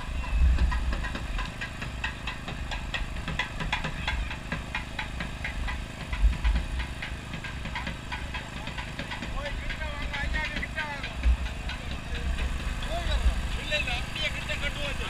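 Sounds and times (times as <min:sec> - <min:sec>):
mechanical hum with low rumble: 0:00.0 - 0:15.0.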